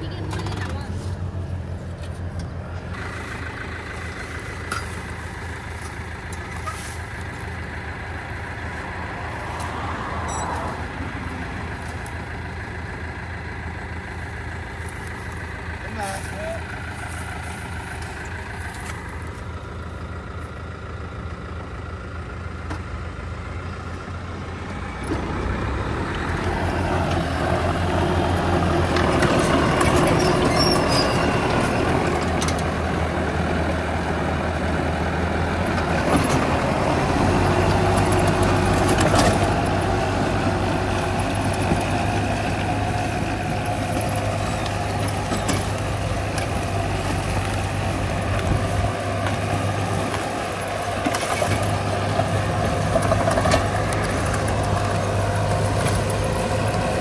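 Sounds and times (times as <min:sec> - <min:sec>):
tiller churning soil: 0:00.0 - 0:19.7, 0:24.7 - 0:57.0
tractor diesel engine: 0:00.0 - 0:57.0.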